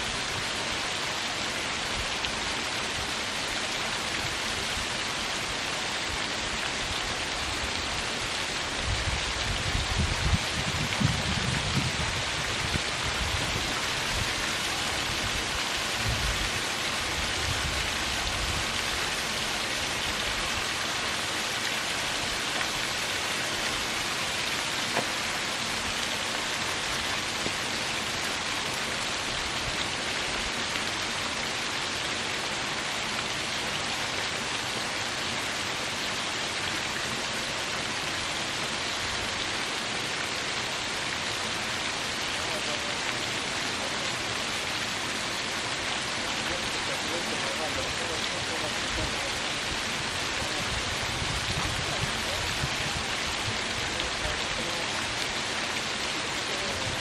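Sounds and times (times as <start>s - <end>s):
water splashing over rocks: 0.0s - 57.0s.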